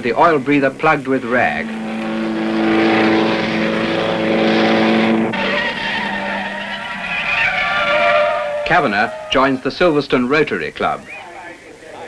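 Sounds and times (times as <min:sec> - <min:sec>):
higher-pitched engine note: 0:00.0 - 0:10.3
racing car engines running: 0:00.0 - 0:11.2.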